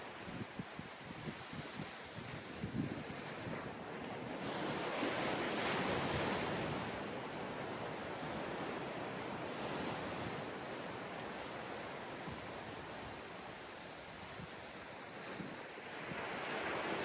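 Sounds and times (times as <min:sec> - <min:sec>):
waves washing up on beach: 0:00.0 - 0:17.0.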